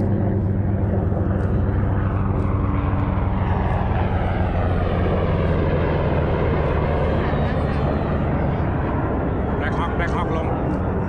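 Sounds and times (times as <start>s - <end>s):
aircraft engines droning overhead: 0.0s - 11.0s.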